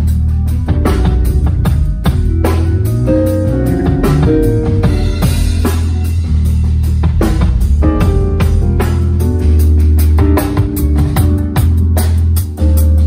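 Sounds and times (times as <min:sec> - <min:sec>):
drum kit beat: 0:00.0 - 0:13.0
electric bass groove: 0:00.0 - 0:13.0.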